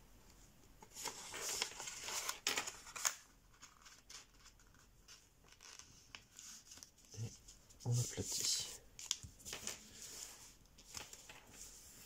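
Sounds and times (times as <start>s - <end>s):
paper rustling and crinkling: 0.8s - 7.9s, 9.0s - 12.0s.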